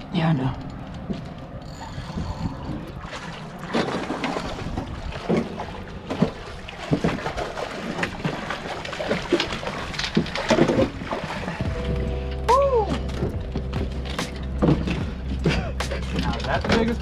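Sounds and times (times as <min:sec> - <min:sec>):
knocks and clatter from a boat: 0:00.0 - 0:17.0
fish splashing in water: 0:01.9 - 0:16.4.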